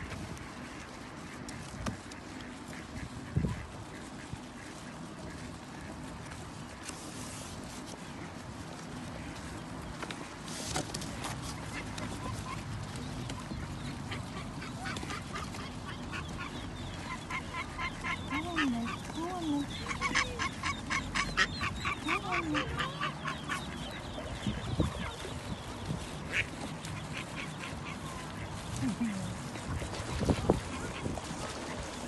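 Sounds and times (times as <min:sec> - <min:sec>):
duck low calls: 0:00.0 - 0:06.9, 0:11.5 - 0:32.0
ducklings peeping: 0:00.0 - 0:32.0.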